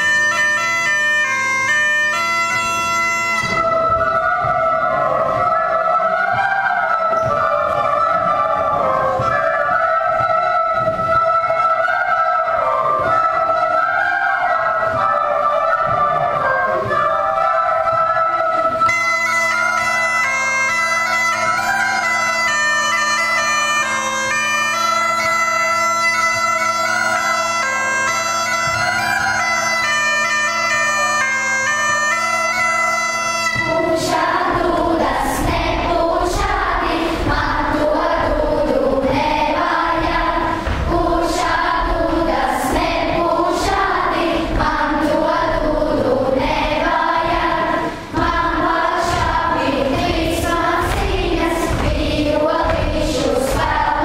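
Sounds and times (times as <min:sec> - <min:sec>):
children playing wooden whistles: 0:00.0 - 0:54.0
children singing: 0:00.0 - 0:54.0
percussion hits: 0:00.0 - 0:54.0.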